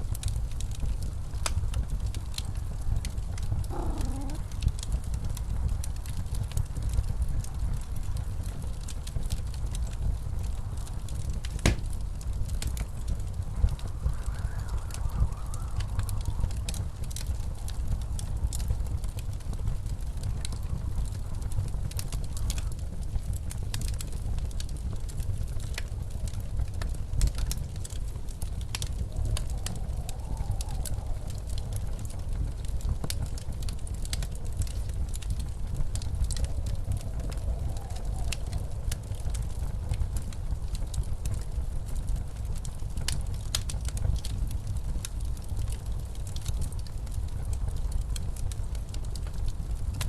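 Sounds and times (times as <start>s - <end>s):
faint wavering wind howl: 0.0s - 50.0s
low rumble of blizzard wind: 0.0s - 50.0s
wood fire crackling and popping: 0.0s - 50.0s.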